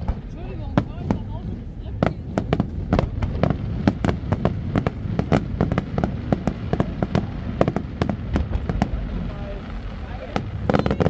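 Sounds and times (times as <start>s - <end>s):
firework shell bursts and bangs: 0.0s - 11.0s
low rumble of launches: 0.0s - 11.0s.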